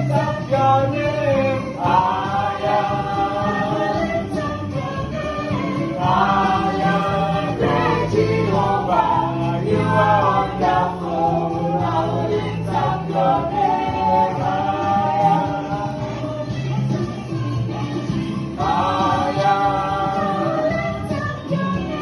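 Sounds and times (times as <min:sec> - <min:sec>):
gospel group singing: 0:00.0 - 0:22.0.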